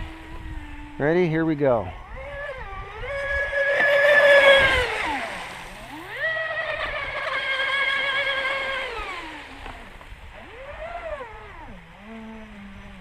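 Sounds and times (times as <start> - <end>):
rc boat motor whining: 0.0 - 13.0.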